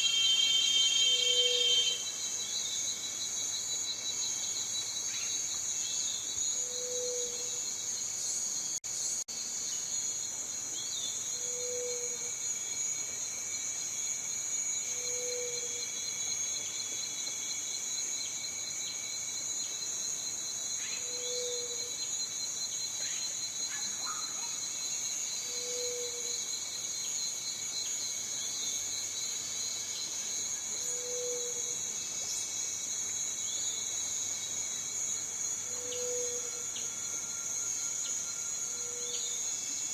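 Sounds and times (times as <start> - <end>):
cicadas buzzing chorus: 0.0 - 39.9.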